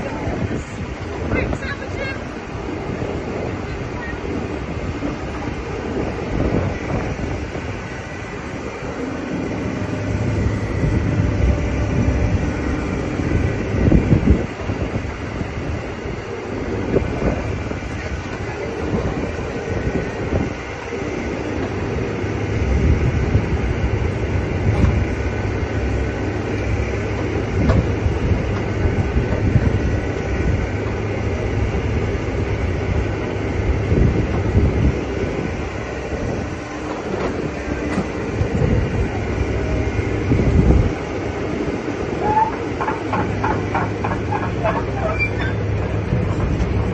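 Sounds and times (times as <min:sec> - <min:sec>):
excavator engine rumbling: 0:00.0 - 0:46.9.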